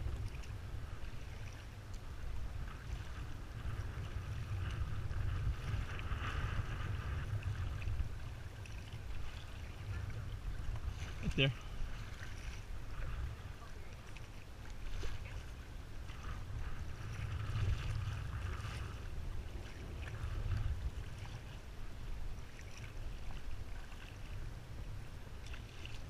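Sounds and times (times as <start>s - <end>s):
kayak paddle splashing: 0.0s - 26.0s
water swishing along hull: 0.0s - 26.0s
wind rumble on microphone: 0.0s - 26.0s.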